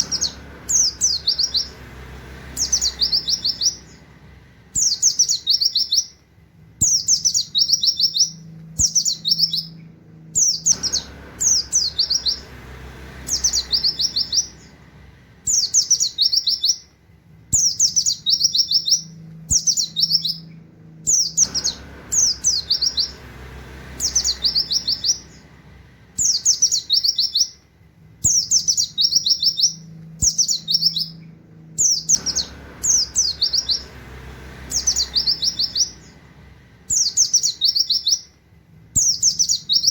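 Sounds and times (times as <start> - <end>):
bird singing fast high notes: 0.0 - 4.2, 6.8 - 16.9, 17.6 - 27.6, 28.3 - 38.3.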